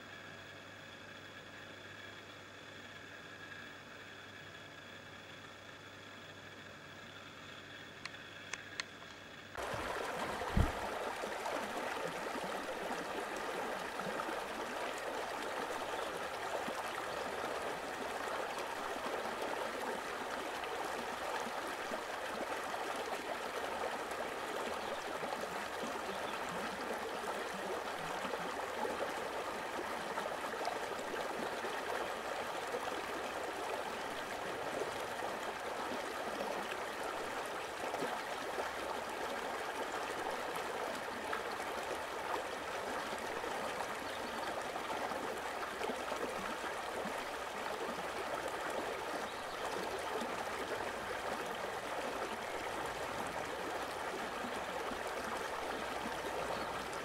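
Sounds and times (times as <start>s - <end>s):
flowing water rushing: 9.5s - 57.0s.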